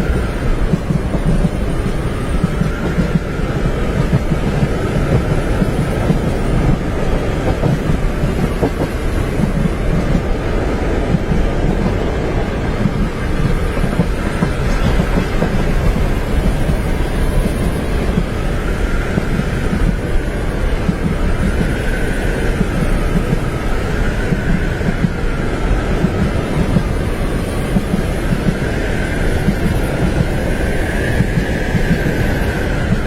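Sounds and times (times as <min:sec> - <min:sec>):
train rumble inside carriage: 0:00.0 - 0:33.0.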